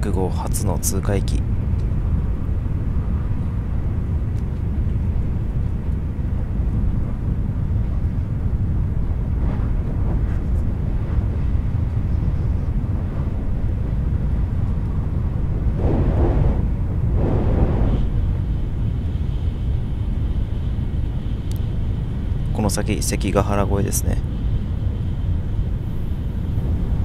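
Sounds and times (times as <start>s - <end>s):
train rumble from inside: 0.0s - 27.0s.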